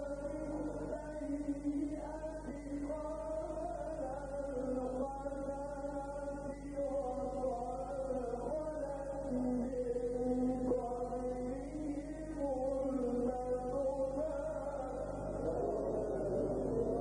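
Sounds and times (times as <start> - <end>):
man reciting melodically: 0.0 - 17.0
steady low hum: 0.0 - 17.0.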